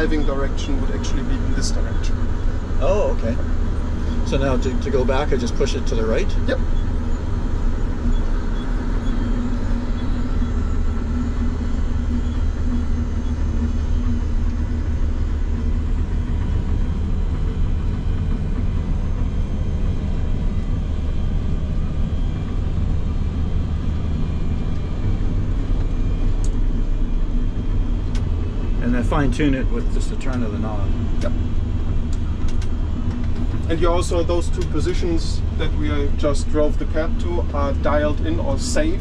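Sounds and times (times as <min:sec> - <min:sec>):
machine hum: 0:00.0 - 0:39.0
machine rumble: 0:00.0 - 0:39.0.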